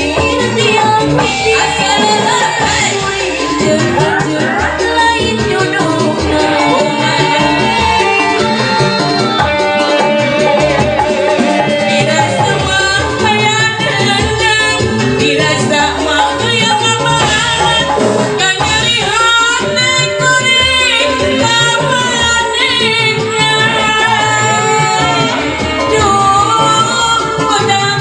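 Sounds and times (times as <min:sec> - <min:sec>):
amplified backing music with beat: 0:00.0 - 0:28.0
woman singing through microphone: 0:00.0 - 0:28.0.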